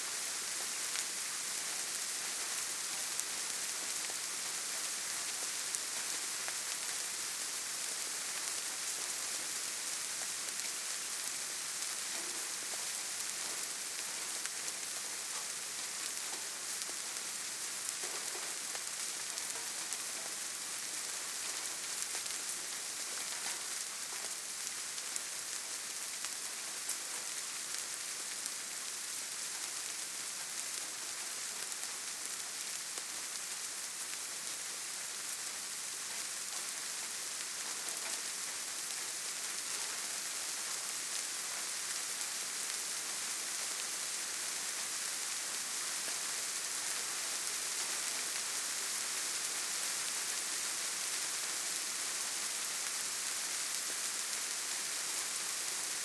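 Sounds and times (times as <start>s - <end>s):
steady rainfall in forest: 0.0s - 56.0s.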